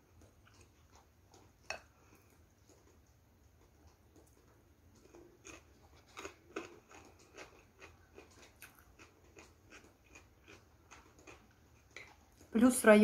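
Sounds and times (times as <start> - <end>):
person chewing crunchy food: 0.0 - 12.5.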